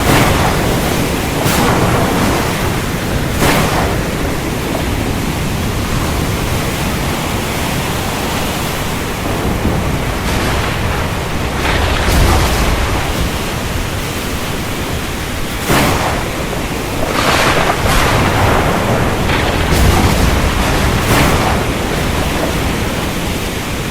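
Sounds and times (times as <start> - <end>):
heavy rain: 0.0 - 23.9
thunder cracks: 0.0 - 23.9
thunder rumbling: 0.0 - 23.9.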